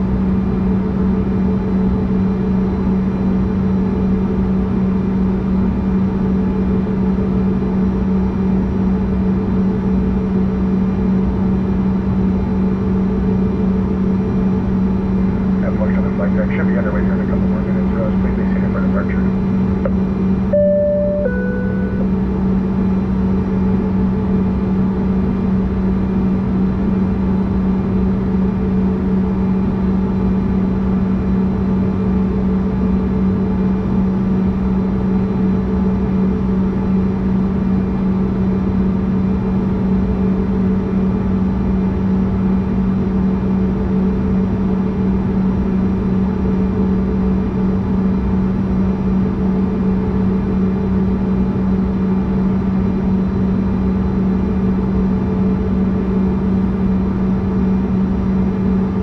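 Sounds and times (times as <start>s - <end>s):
jet engines idling cabin drone: 0.0s - 59.0s.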